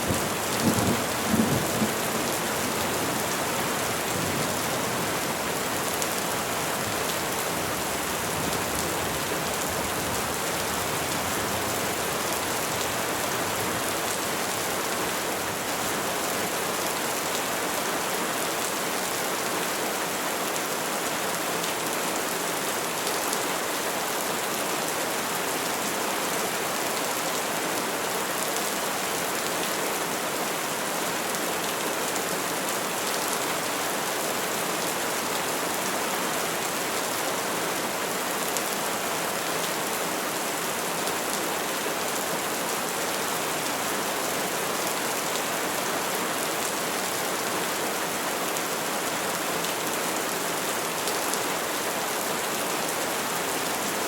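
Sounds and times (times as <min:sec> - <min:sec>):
rain falling on trees: 0:00.0 - 0:54.0.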